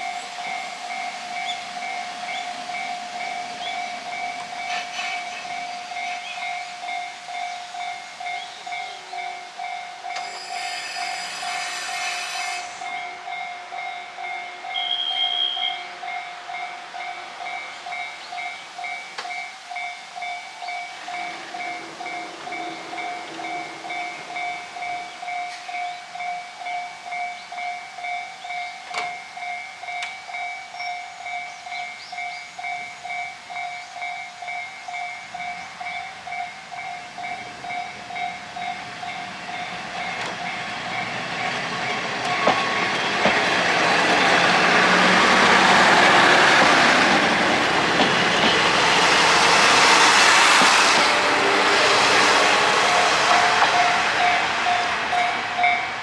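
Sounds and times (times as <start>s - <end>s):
level crossing warning bell: 0.0s - 11.7s, 12.8s - 56.0s
diesel railcars running: 0.0s - 56.0s.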